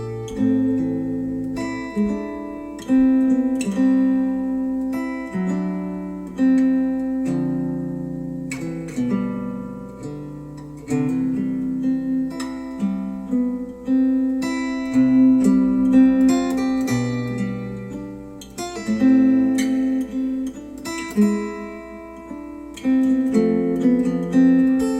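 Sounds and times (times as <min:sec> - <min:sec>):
acoustic guitar chords: 0:00.0 - 0:24.9.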